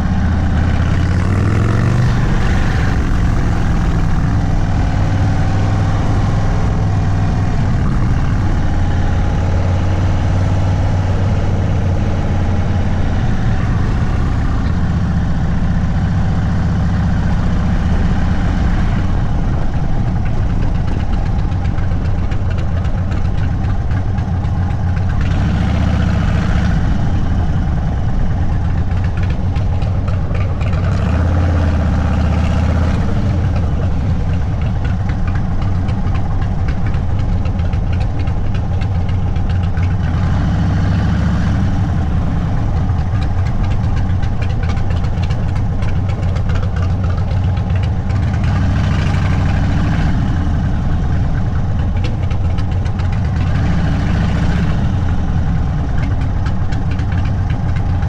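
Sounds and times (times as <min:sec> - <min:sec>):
motorcycle exhaust rumbling: 0:00.0 - 0:58.0.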